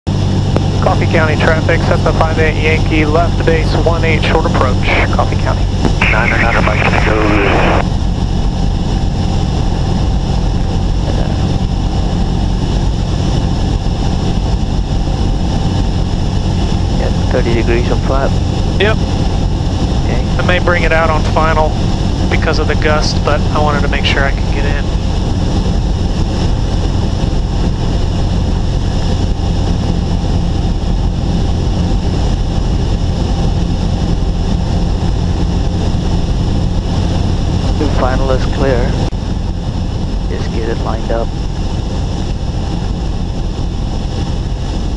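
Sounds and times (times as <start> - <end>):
airplane engine idling: 0.1 - 44.9.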